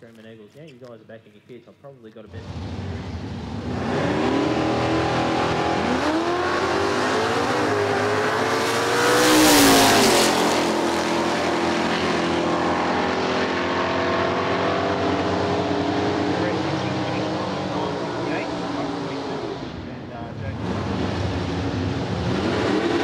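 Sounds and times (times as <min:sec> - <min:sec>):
drag racing cars accelerating: 0:02.3 - 0:23.0
car passing with loud rush: 0:02.4 - 0:23.0.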